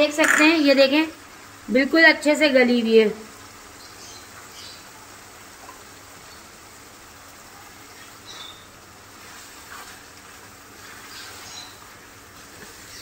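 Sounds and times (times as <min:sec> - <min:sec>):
simmering pan hiss: 0:00.0 - 0:13.0.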